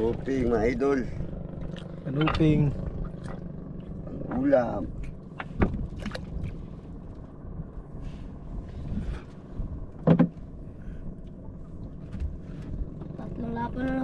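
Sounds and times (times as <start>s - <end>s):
low drone: 0.0s - 14.0s.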